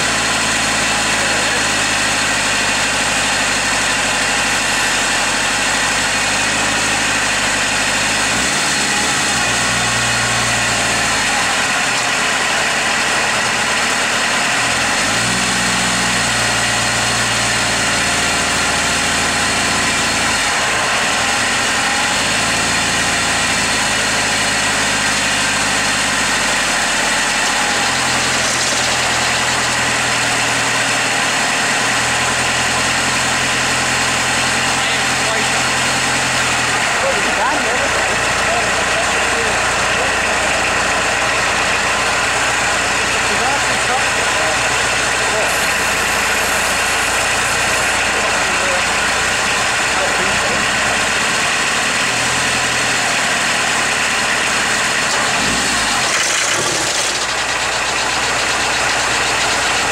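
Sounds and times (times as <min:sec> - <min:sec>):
diesel van engine running: 0:00.0 - 0:59.9.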